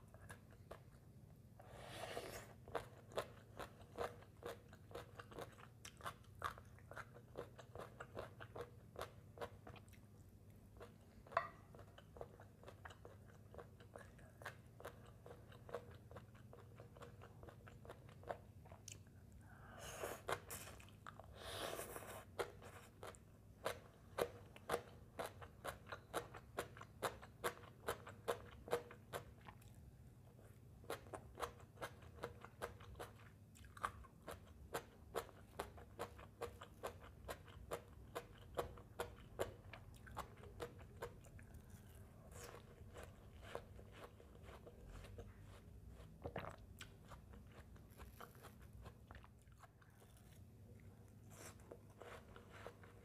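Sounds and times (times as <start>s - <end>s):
chewing crunchy salad: 0.0s - 53.0s.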